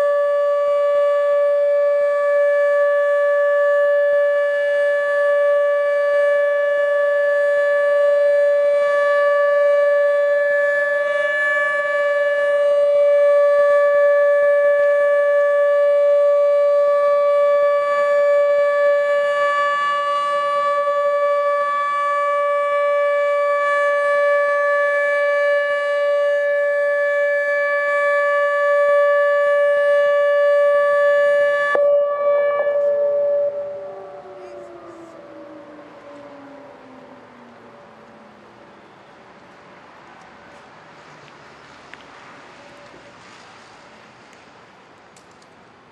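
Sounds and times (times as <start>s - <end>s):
electronic warning siren tone: 0.0s - 38.2s.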